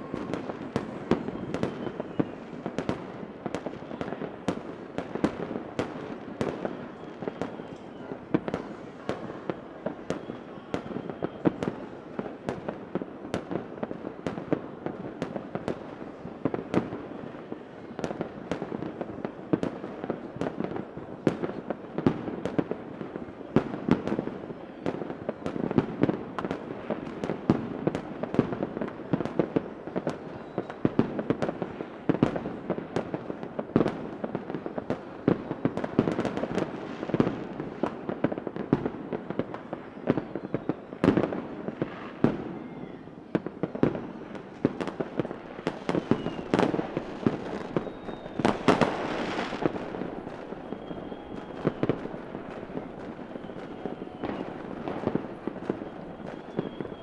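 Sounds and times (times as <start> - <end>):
fireworks whistling: 0.0 - 15.0, 22.2 - 57.0
fireworks crackling and banging: 0.0 - 57.0.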